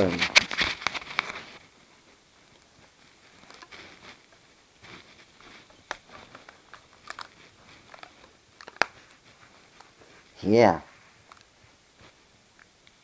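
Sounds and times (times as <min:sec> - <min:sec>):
rubber bands rustling: 0:00.0 - 0:13.0.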